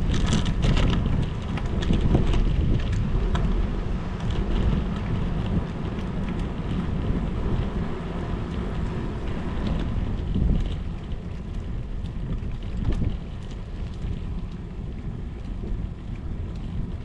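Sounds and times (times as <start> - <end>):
rain: 0.0 - 17.0
wind rumbling on microphone: 0.0 - 17.0.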